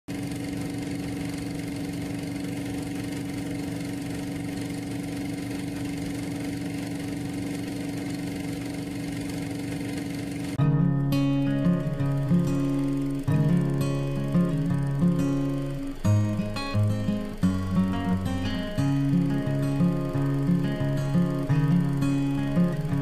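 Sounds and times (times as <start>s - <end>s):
motor running steadily: 0.1s - 23.0s.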